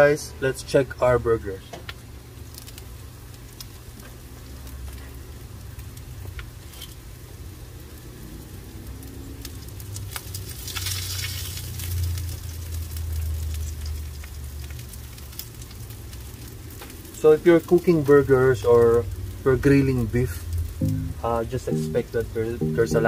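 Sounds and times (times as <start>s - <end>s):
burger patties sizzling on grill: 0.0s - 23.0s.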